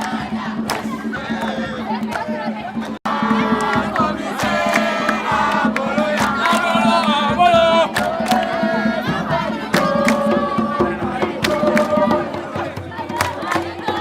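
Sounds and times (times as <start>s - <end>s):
voices singing in chorus: 0.0s - 14.0s.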